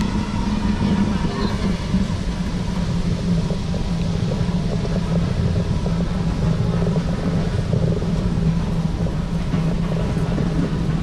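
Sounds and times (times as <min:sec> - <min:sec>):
car engines humming: 0:00.0 - 0:11.0
traffic hiss: 0:00.0 - 0:11.0.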